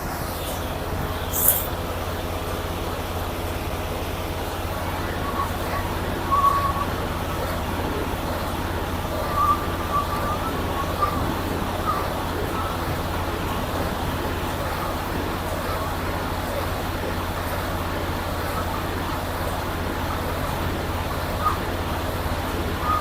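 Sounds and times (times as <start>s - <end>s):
faint wavering sounds: 0.0s - 2.1s, 4.4s - 23.0s
traffic noise low hum: 0.0s - 23.0s.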